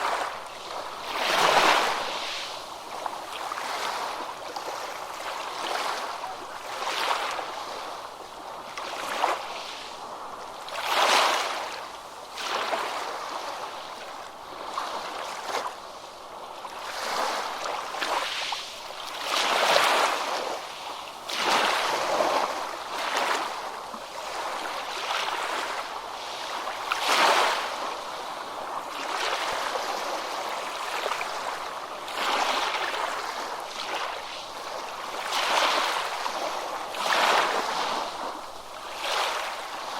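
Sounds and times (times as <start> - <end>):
ocean waves breaking: 0.0 - 15.8, 16.7 - 39.9.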